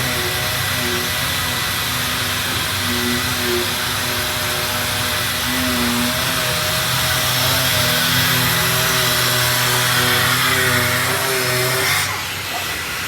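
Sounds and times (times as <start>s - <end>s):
faint motor tones: 0.0s - 13.0s.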